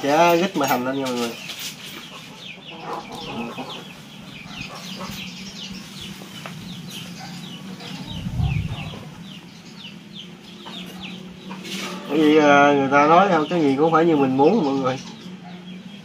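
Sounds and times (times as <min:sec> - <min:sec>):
chickens clucking and peeping: 0:00.0 - 0:16.0.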